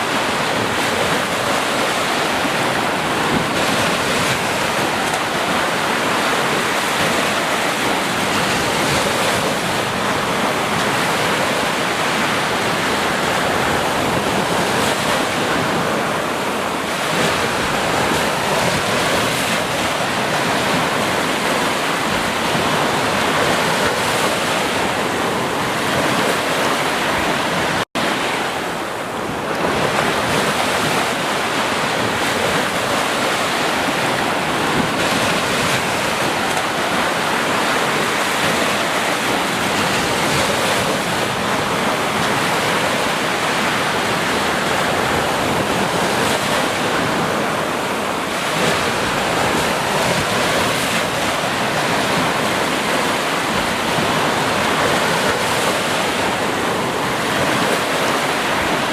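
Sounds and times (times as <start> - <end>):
ocean surf on a beach: 0.0 - 58.9.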